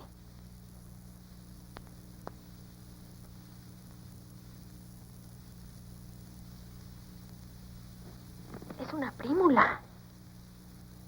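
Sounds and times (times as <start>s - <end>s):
recording hiss and hum: 0.0s - 11.0s.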